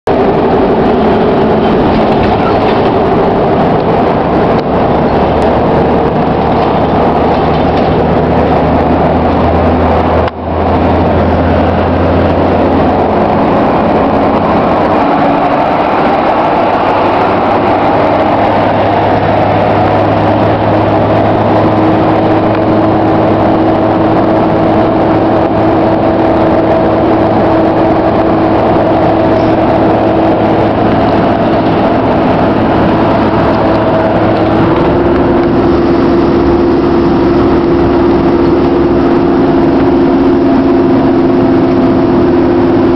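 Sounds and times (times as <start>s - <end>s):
bus engine running: 0.0s - 42.9s
steady whine: 0.1s - 42.9s.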